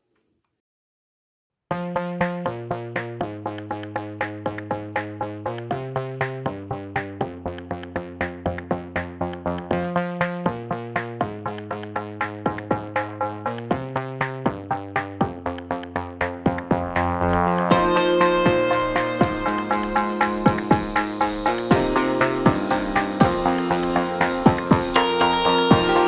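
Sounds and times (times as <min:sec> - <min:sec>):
electronic music with steady beat: 0:02.0 - 0:26.0.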